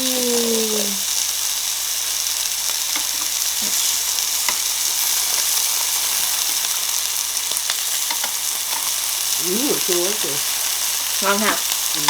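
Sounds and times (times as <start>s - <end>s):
meat sizzling on a grill: 0.0s - 12.0s
fat crackling: 2.1s - 12.0s.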